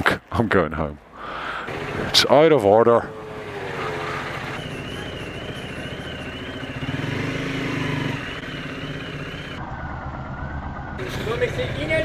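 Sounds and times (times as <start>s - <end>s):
vehicle engine running in traffic: 1.4s - 12.0s.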